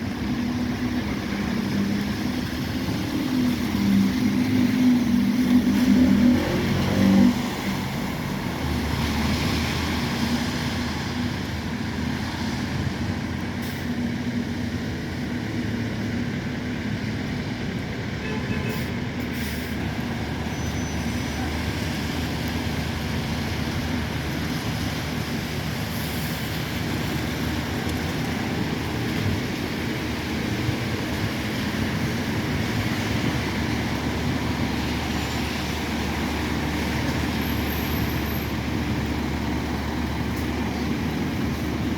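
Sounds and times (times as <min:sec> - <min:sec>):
bus diesel engine humming: 0:00.0 - 0:41.9.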